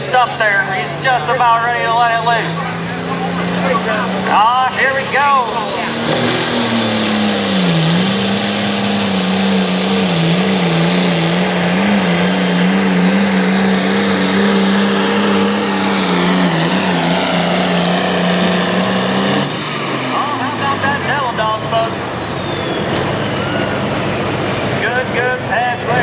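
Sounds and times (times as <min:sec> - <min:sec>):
diesel tractor engine at full power: 0:00.0 - 0:26.0.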